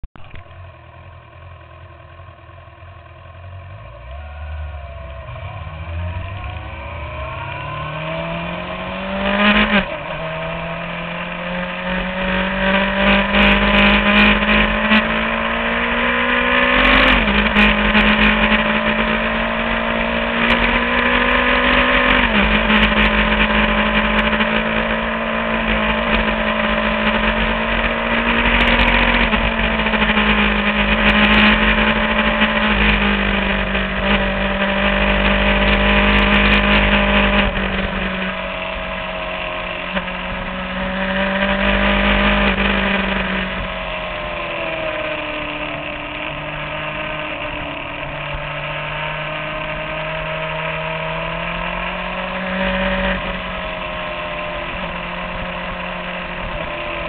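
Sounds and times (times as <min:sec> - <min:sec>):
sport bike engine revving: 0:03.9 - 0:57.0.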